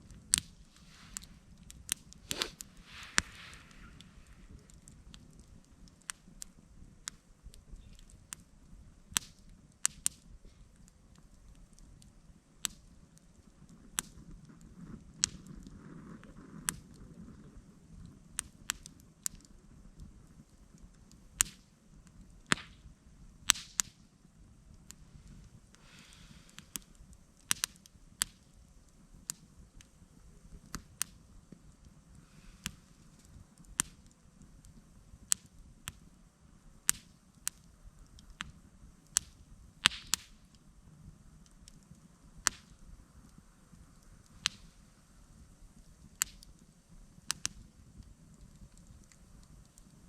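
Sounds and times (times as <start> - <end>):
campfire crackling and popping: 0.0 - 50.0.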